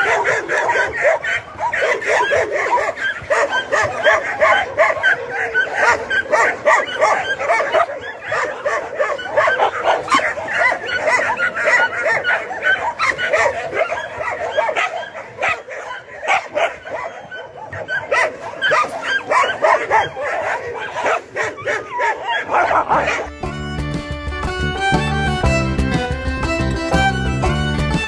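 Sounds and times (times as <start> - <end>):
dogs barking and yelping: 0.0 - 23.4.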